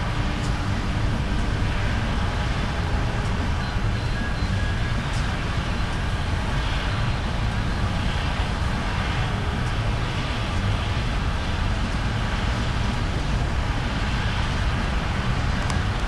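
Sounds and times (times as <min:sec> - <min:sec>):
diesel locomotive rumble: 0:00.0 - 0:16.0
train wheels on rails: 0:00.0 - 0:16.0.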